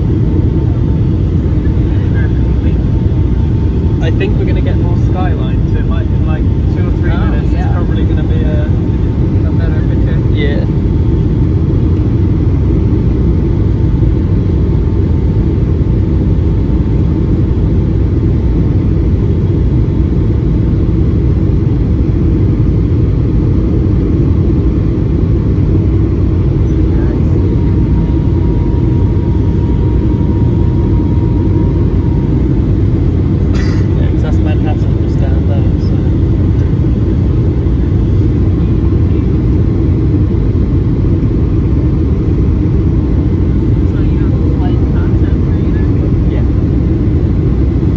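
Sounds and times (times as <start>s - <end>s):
airliner cabin rumble: 0.0s - 47.9s.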